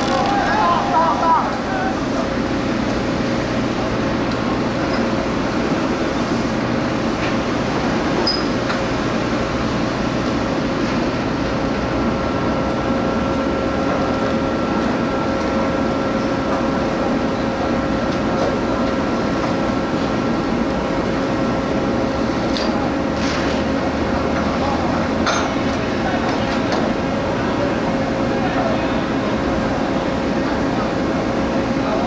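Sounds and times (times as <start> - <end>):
heavy machinery droning: 0.0 - 32.0.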